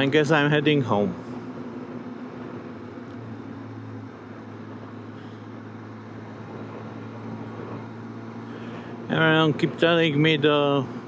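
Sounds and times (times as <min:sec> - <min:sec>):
motorcycle engine humming: 0:00.0 - 0:11.0
wind and road noise: 0:00.0 - 0:11.0.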